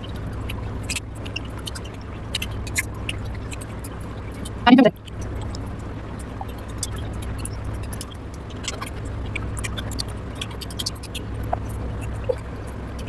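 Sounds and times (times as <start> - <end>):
chewing food: 0.0 - 13.0
steady low hum: 0.0 - 13.0.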